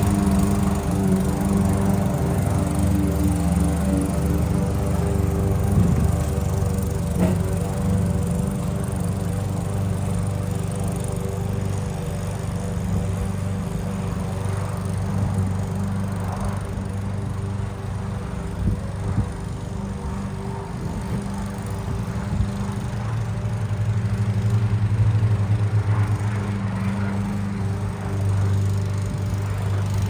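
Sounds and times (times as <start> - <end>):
lawn mower running: 0.0 - 30.0.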